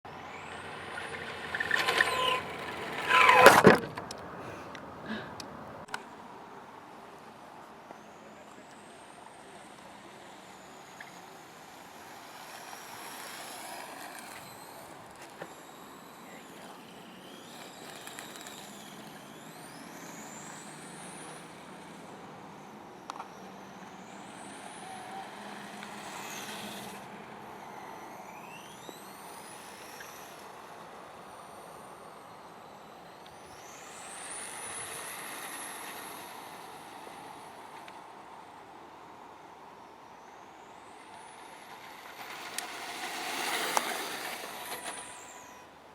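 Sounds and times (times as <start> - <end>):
rc car motor whine: 0.1 - 45.9.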